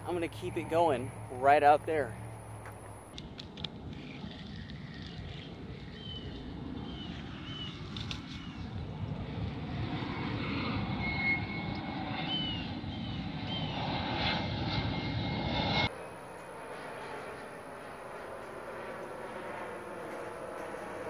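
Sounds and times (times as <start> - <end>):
jet airplane flying overhead: 0.0 - 21.0.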